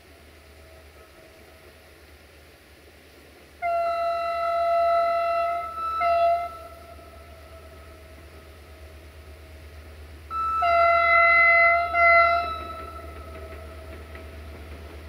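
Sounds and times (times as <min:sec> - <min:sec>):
distant train horn: 0:00.0 - 0:02.4, 0:03.4 - 0:15.0.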